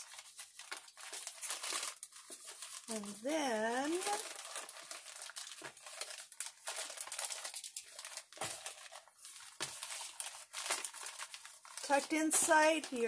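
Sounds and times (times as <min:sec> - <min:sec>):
plastic mailer crinkling: 0:00.0 - 0:13.0.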